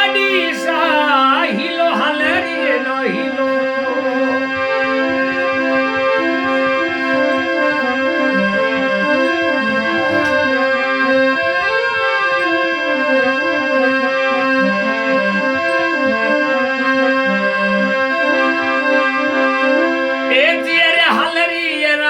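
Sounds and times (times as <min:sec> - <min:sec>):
steady drone: 0:00.0 - 0:18.1
keyboard melody: 0:00.0 - 0:22.0.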